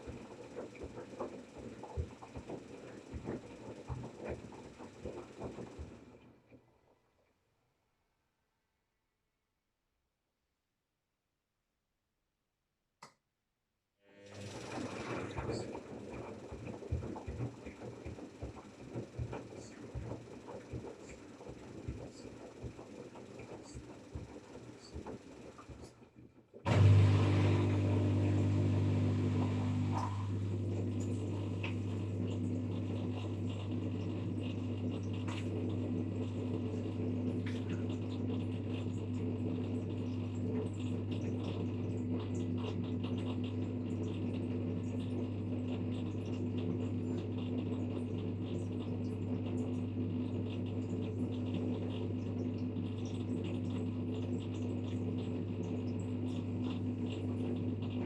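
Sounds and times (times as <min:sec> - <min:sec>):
washing machine humming: 0:00.0 - 0:07.1, 0:14.1 - 0:58.0.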